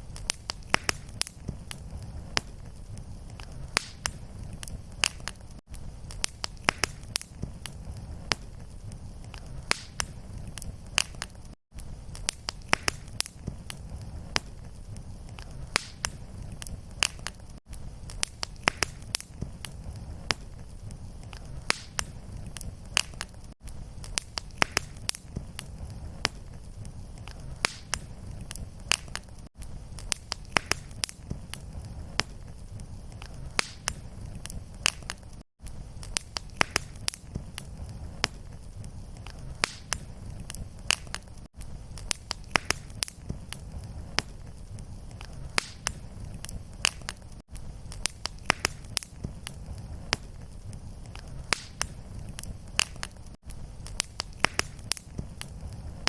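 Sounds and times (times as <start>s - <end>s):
fireplace fire crackling: 0.0s - 56.0s
low flame rumble: 0.0s - 56.0s.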